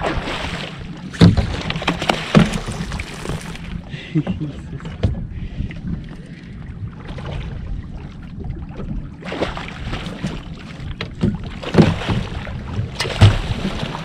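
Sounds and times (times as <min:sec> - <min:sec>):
fish splashing and thrashing: 0:00.0 - 0:06.1, 0:08.6 - 0:14.0
wind rumbling on microphone: 0:00.0 - 0:14.0.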